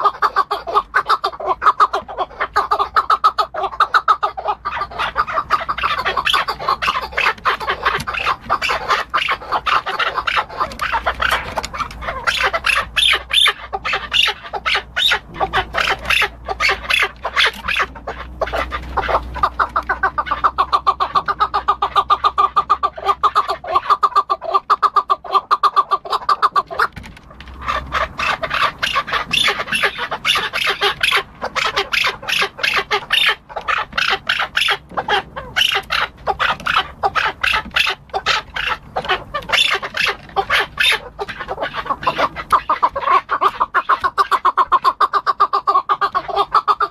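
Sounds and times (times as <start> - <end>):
partridge calling: 0.0 - 26.9, 27.6 - 46.9.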